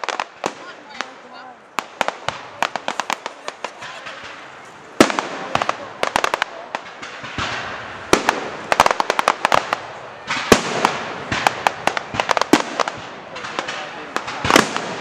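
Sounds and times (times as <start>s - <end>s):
fireworks bangs: 0.0s - 15.0s
fireworks crackling and popping: 0.0s - 15.0s.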